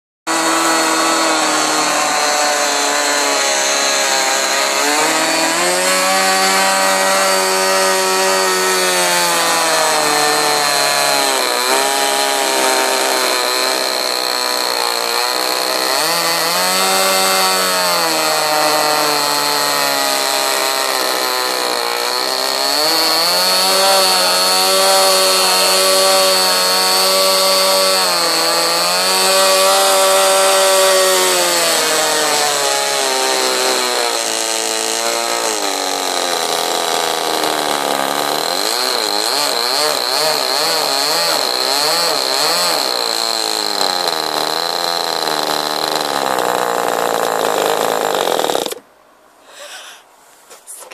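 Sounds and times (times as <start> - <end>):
model engine buzzing: 0.3 - 48.9.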